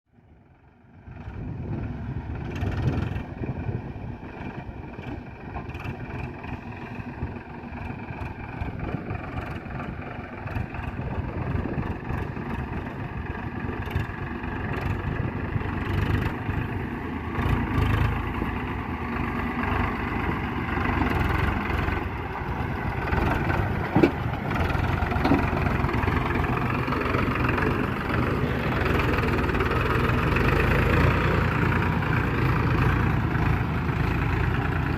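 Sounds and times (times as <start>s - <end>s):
diesel tractor engine running: 0.2s - 34.9s.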